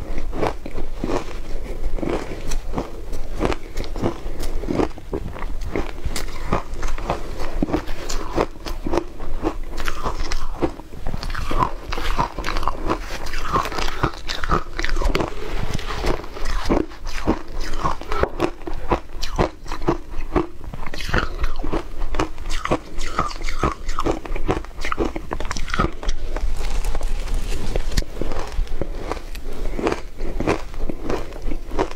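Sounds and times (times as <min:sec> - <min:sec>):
mouth crunching shaved ice: 0:00.0 - 0:31.9.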